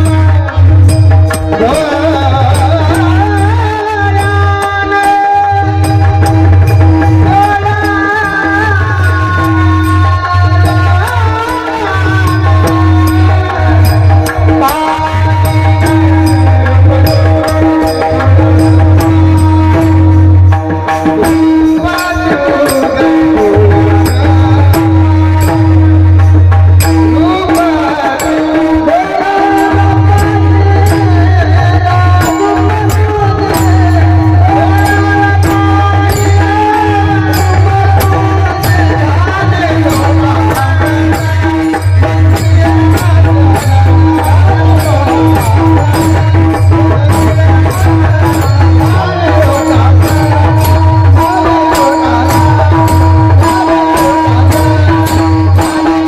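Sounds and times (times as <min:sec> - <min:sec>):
devotional music: 0:00.0 - 0:56.0
drum beat: 0:00.0 - 0:56.0
hand cymbals striking: 0:00.0 - 0:56.0.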